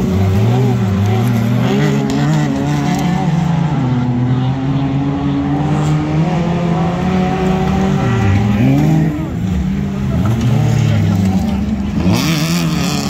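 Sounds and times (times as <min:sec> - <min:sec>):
racing car engines at high revs: 0:00.0 - 0:13.0.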